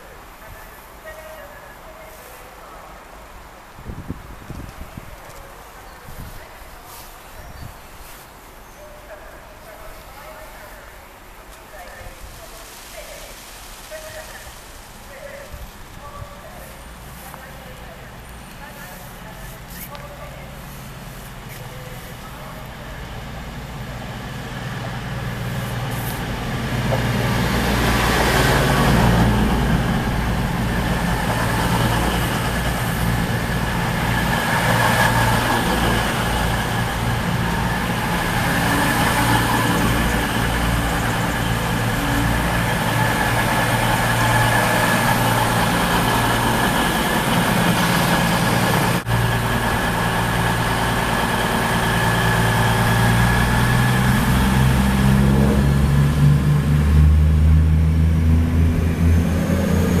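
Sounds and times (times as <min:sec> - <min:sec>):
diesel train engine hum: 0:00.0 - 1:00.0.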